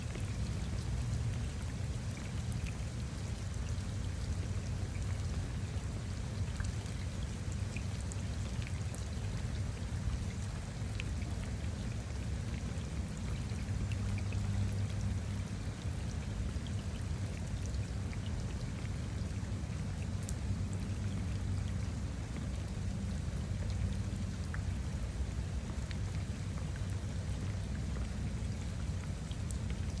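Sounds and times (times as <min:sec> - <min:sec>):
rain falling on puddles: 0:00.0 - 0:30.0.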